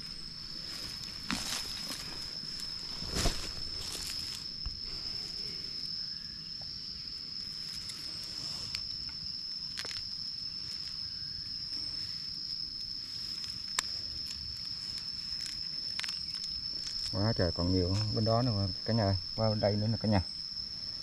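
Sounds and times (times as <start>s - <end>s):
insect trilling: 0.0s - 21.0s.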